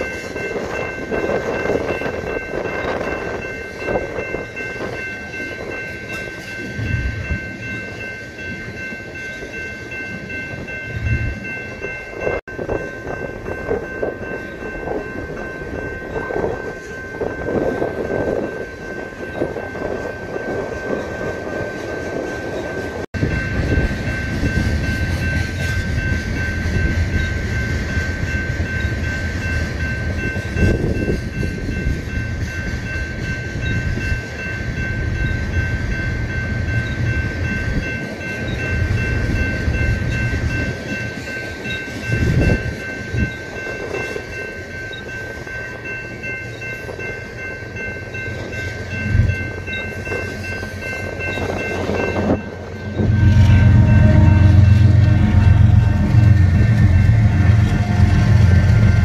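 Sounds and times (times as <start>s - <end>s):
freight train rumble: 0.0s - 59.0s
high-pitched ringing tone: 0.0s - 59.0s
train wheels clattering on rails: 0.0s - 59.0s.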